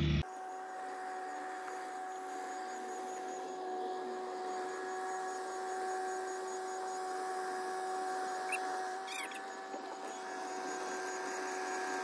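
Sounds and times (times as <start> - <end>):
excavator engine and hydraulics whine: 0.0 - 12.0.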